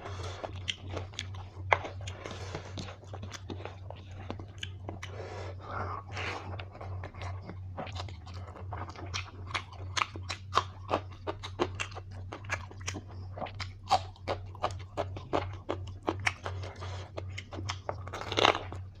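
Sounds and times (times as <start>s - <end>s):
person chewing food: 0.0s - 19.0s
steady low hum: 0.0s - 19.0s.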